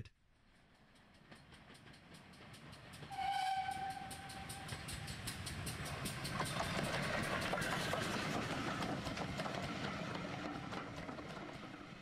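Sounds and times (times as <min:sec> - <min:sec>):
steam train running: 0:00.6 - 0:12.0.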